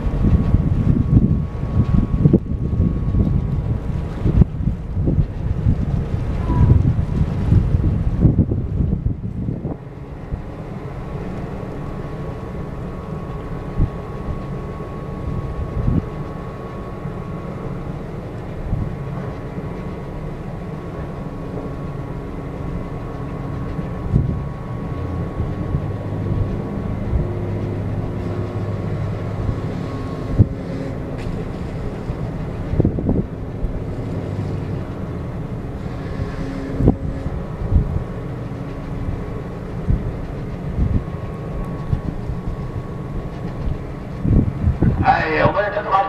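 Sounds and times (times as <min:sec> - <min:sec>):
ship machinery droning: 0:00.0 - 0:46.0.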